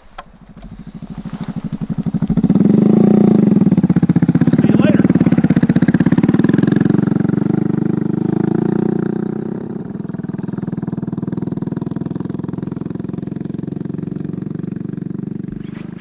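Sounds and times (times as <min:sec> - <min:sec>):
small motorcycle engine: 0:00.3 - 0:16.0.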